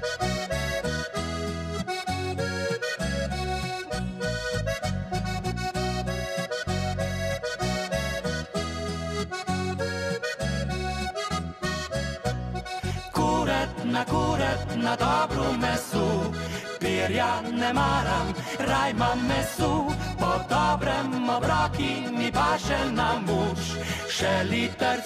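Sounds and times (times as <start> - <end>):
button accordion playing: 0.0 - 25.0.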